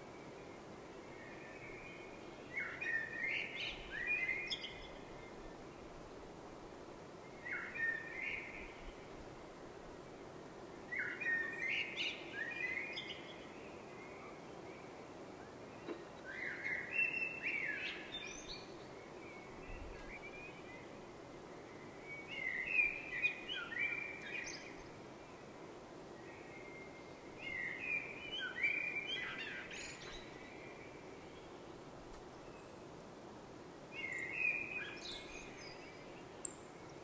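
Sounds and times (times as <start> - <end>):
songbird chirping: 0.0 - 6.1, 7.2 - 10.1, 10.8 - 33.2, 33.8 - 37.0
low background noise: 0.0 - 37.0.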